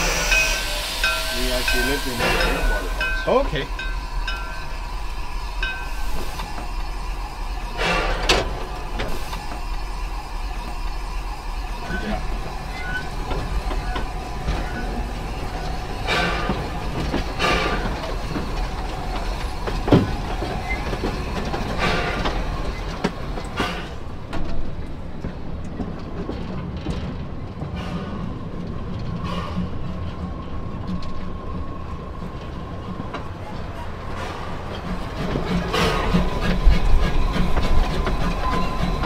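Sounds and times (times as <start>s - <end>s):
running gear rumbling on rails: 0.0s - 39.0s
steam locomotive exhaust chuffs: 0.0s - 39.0s.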